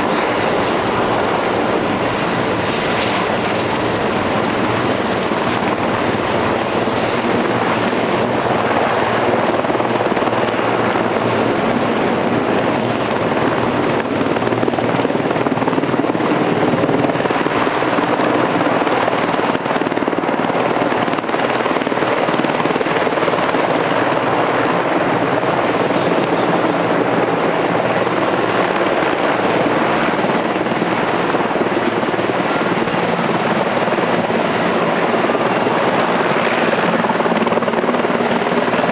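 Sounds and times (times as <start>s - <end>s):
helicopter rotor and engine noise: 0.0s - 38.9s
high turbine whine: 0.0s - 38.9s.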